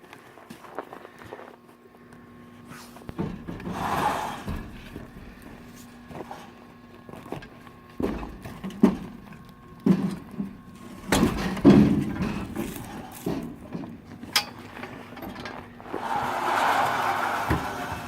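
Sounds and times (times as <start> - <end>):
log loader clunks and knocks: 3.0 - 18.0.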